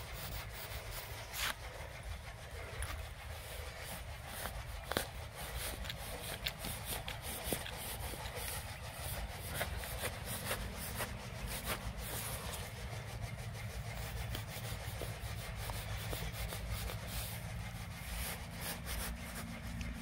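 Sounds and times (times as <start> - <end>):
knife scraping soil and roots: 0.0 - 20.0.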